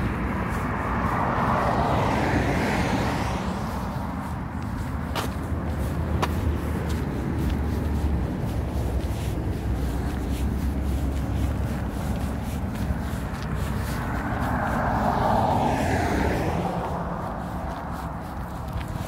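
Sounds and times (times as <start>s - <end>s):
low rumble of traffic: 0.0s - 19.0s
vehicle passing: 0.0s - 19.0s.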